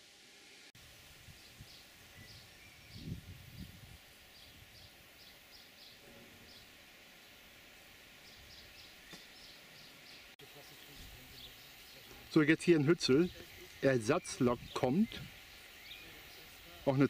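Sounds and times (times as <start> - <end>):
faint outdoor ambience: 0.0 - 17.0
bird high chirp: 1.4 - 6.7, 8.2 - 16.8.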